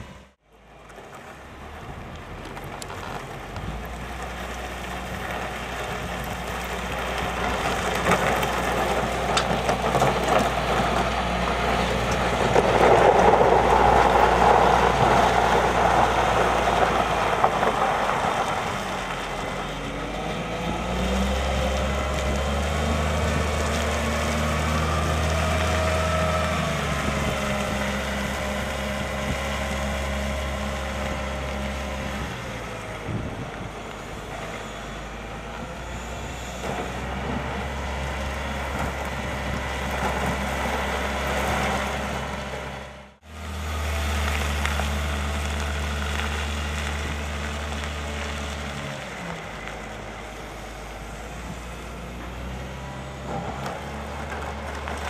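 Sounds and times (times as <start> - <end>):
wheel loader diesel engine: 0.0 - 55.0.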